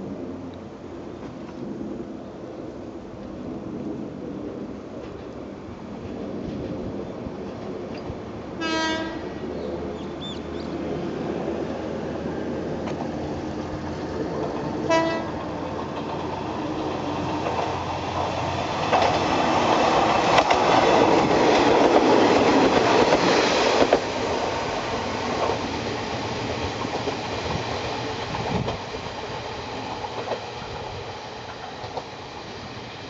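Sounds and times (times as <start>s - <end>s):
diesel railcar passing: 0.0s - 33.0s.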